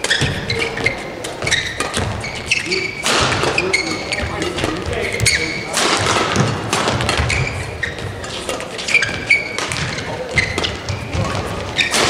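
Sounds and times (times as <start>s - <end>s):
rackets hitting shuttlecock: 0.0s - 12.0s
shoes squeaking on court: 0.0s - 12.0s.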